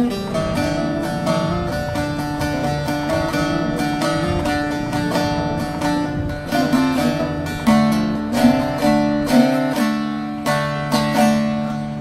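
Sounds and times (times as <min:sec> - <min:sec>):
plucked string instruments melody: 0:00.0 - 0:12.0
sustained low accompaniment: 0:00.0 - 0:12.0.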